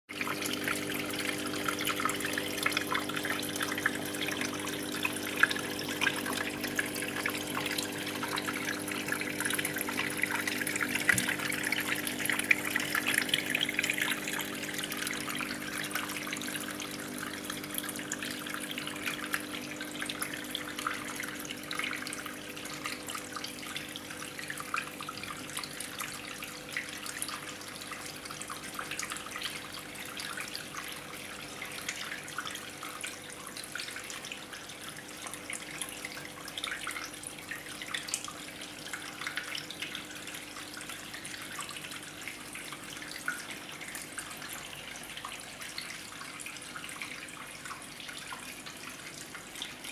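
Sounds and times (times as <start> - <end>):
small waterfall trickling: 0.1 - 49.9.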